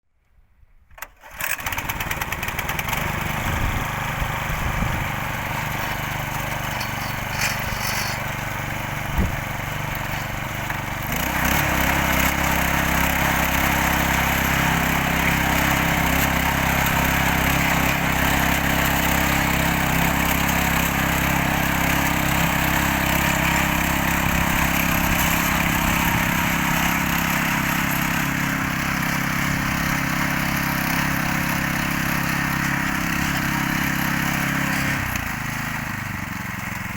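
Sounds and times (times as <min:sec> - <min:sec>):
tractor engine running: 0:01.2 - 0:36.9.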